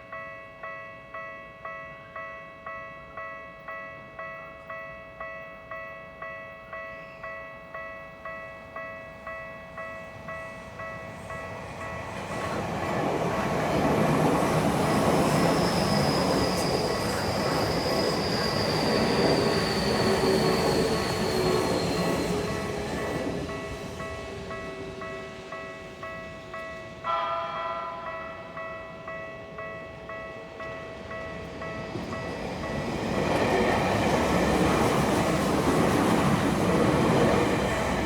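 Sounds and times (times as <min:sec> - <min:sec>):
electric train passing: 0:06.7 - 0:38.0.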